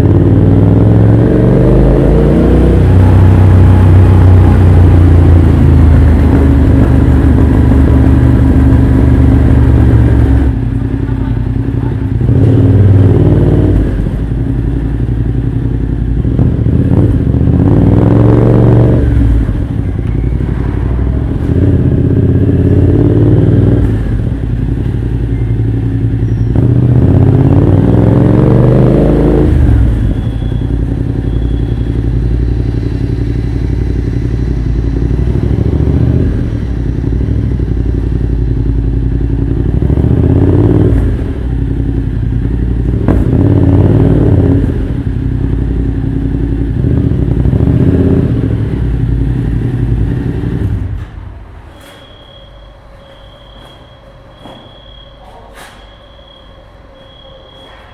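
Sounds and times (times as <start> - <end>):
motorcycle idling and revving: 0.0 - 57.9.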